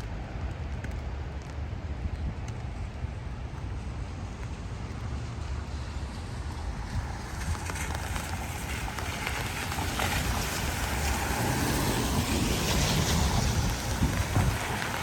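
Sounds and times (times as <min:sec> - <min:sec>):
storm wind buffeting microphone: 0:01.7 - 0:15.0.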